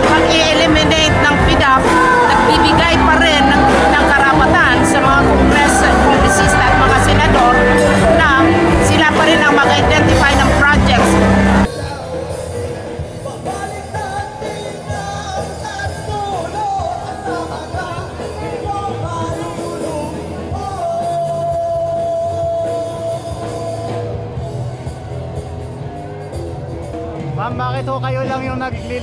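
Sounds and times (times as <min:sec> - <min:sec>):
person singing: 0:00.0 - 0:24.6
rock band music: 0:00.0 - 0:29.0.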